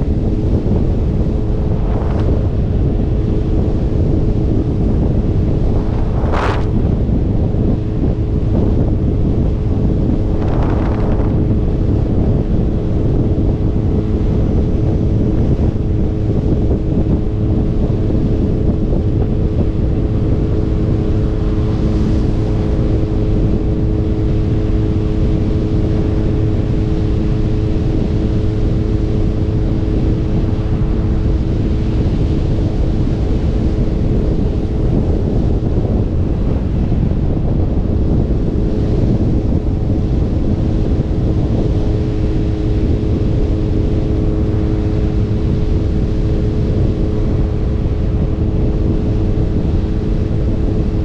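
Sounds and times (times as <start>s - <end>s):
motorcycle engine drone: 0.0s - 51.0s
wind rush on microphone: 0.0s - 51.0s.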